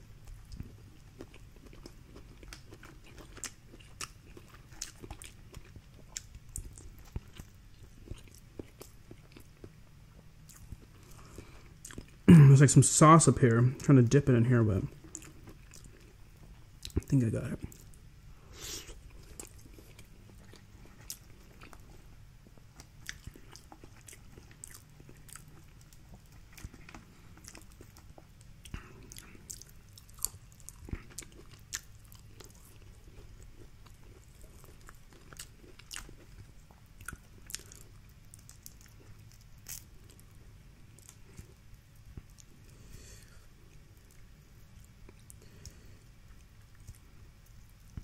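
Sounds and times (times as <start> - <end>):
chewing food: 0.0 - 12.3, 14.8 - 18.0, 18.8 - 48.0
faint low hum: 0.0 - 48.0.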